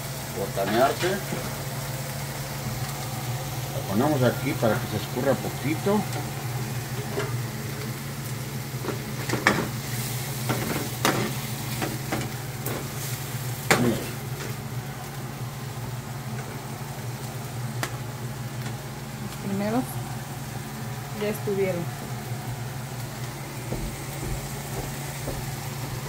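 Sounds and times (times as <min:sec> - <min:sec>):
oil sizzling in frying pan: 0:00.0 - 0:26.0
steady low hum: 0:00.0 - 0:26.0.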